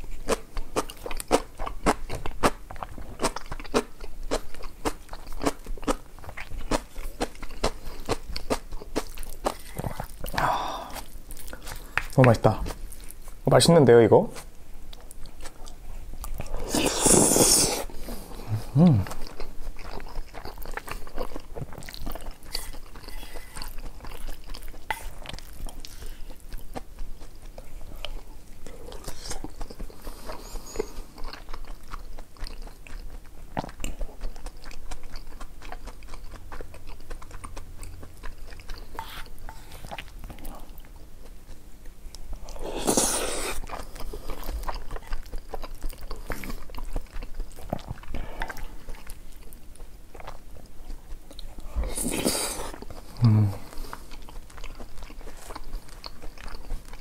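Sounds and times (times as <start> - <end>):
person chewing food: 0.0 - 13.4, 14.3 - 57.0.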